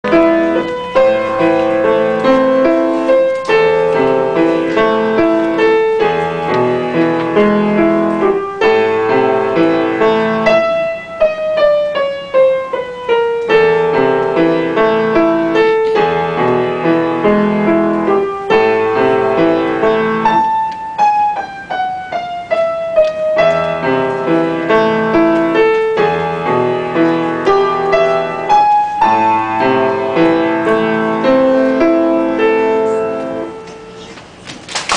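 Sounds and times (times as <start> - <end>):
solo piano music: 0.0 - 34.1.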